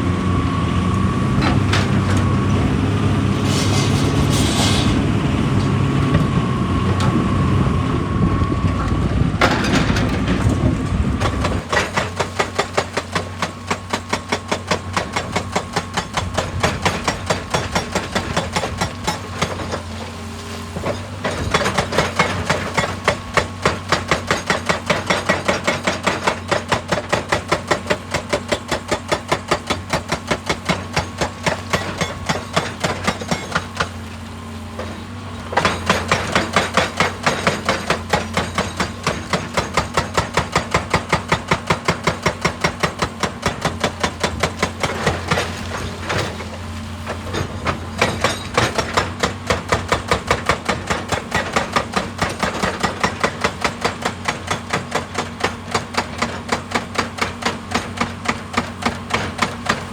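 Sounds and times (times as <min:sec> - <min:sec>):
excavator engine hum: 0:00.0 - 0:59.9
hydraulic breaker hammering rock: 0:08.8 - 0:59.9.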